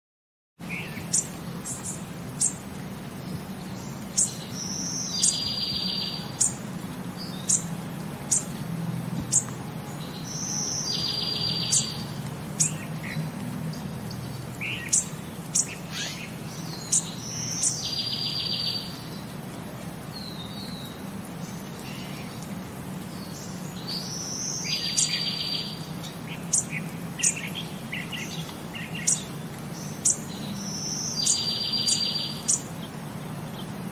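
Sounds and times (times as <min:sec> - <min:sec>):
small birds chirping: 0:00.6 - 0:33.9.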